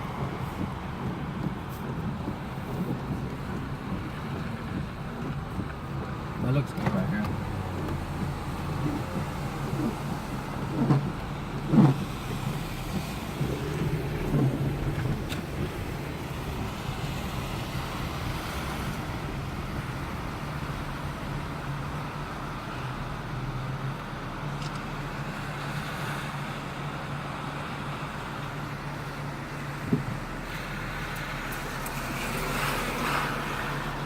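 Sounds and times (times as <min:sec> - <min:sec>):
constant wash of noise: 0:00.0 - 0:34.0
vehicle engine humming: 0:00.0 - 0:34.0.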